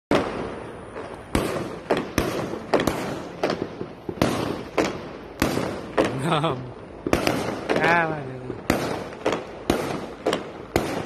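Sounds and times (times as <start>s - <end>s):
fireworks banging: 0.1s - 11.0s.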